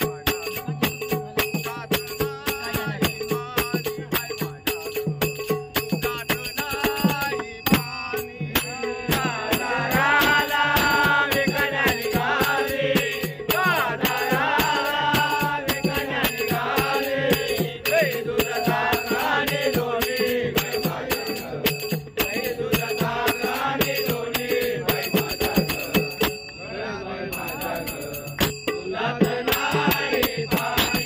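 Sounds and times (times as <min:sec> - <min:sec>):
elderly man singing: 0:00.0 - 0:05.1, 0:05.8 - 0:26.2
hand percussion with jingling: 0:00.0 - 0:31.0.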